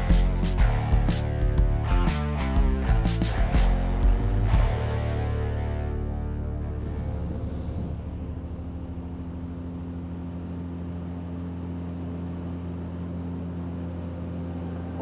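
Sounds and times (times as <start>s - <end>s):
outboard motor running: 2.6s - 15.0s.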